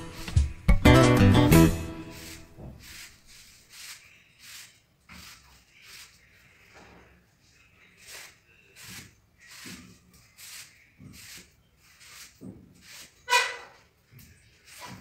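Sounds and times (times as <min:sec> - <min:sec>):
paint brush swishing on wall: 0:00.0 - 0:00.7, 0:01.4 - 0:15.0.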